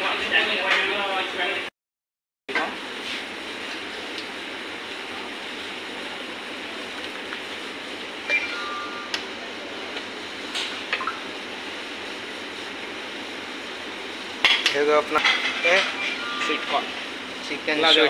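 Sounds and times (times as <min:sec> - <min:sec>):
rushing kitchen background noise: 0:00.0 - 0:01.7, 0:02.5 - 0:18.0.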